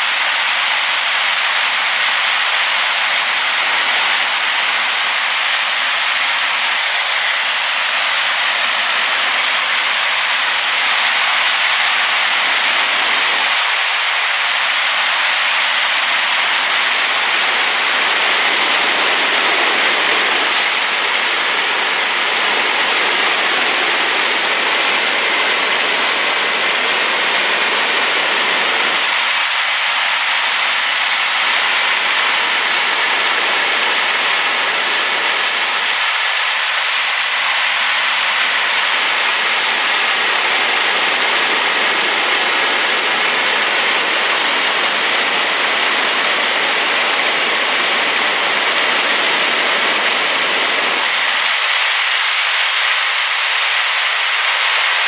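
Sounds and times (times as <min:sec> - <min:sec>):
waterfall pouring heavily: 0:00.0 - 0:55.0.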